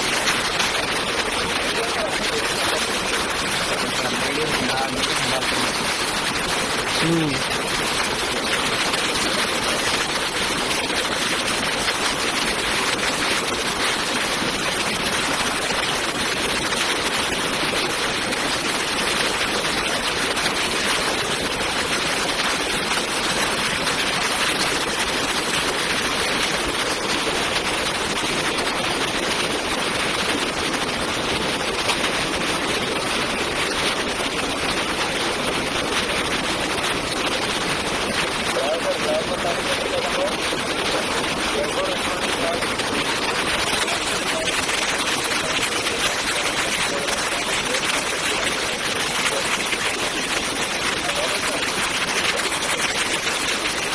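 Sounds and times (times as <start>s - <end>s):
floodwater rushing: 0.0s - 53.9s.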